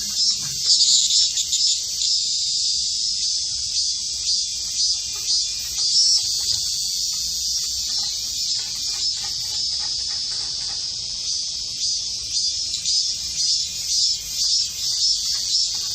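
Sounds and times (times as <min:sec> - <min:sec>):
cicada buzzing: 0:00.0 - 0:15.9.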